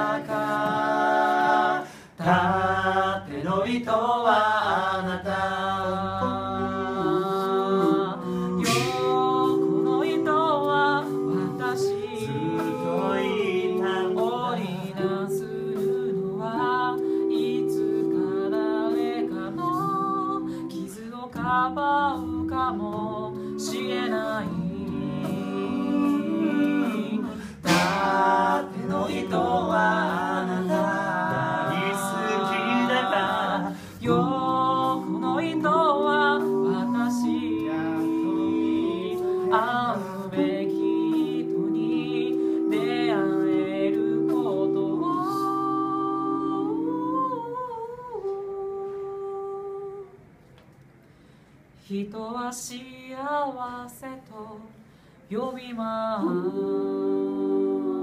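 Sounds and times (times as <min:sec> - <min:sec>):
a cappella group singing: 0:00.0 - 0:50.3, 0:51.2 - 0:58.0.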